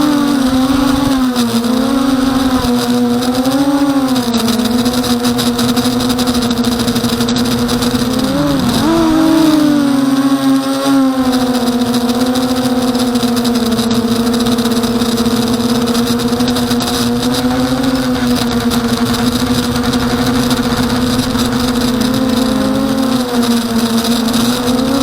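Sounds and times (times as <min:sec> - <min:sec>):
quadcopter propellers buzzing: 0:00.0 - 0:25.0.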